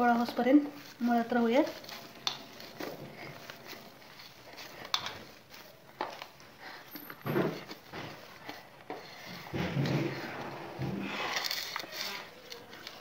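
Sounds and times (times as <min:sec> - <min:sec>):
hands kneading dough: 0:00.0 - 0:13.0.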